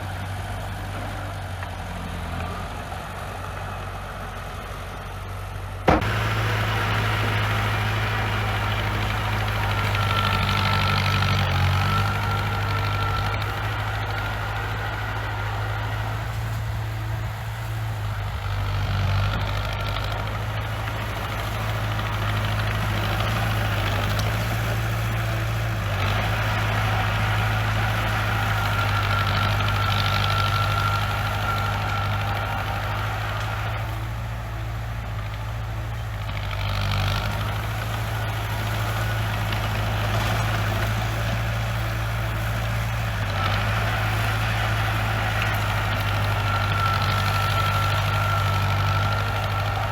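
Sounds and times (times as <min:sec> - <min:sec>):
bulldozer diesel engine running: 0:00.0 - 0:49.9.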